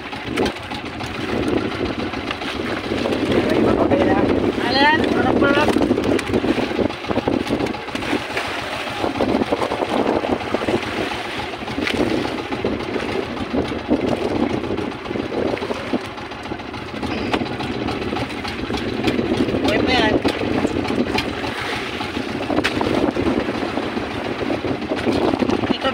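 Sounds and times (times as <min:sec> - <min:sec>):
boat engine droning: 0:00.0 - 0:25.9.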